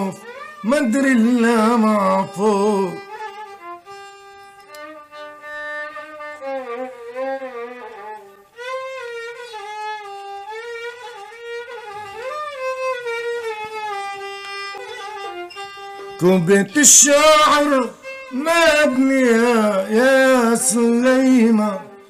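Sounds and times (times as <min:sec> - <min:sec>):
violin melody: 0:00.0 - 0:22.0.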